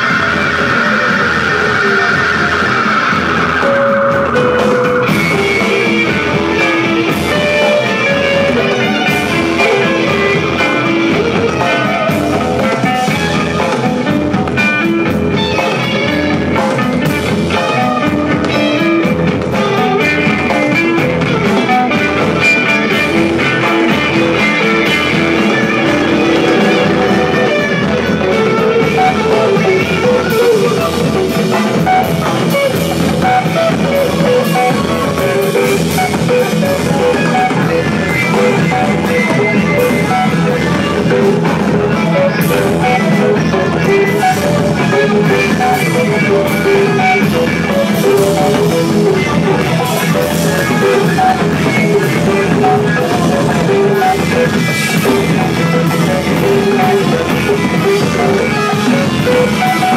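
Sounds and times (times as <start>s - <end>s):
drum kit beat: 0.0s - 59.9s
electric guitar riffing: 0.0s - 59.9s
rock band playing: 0.0s - 59.9s.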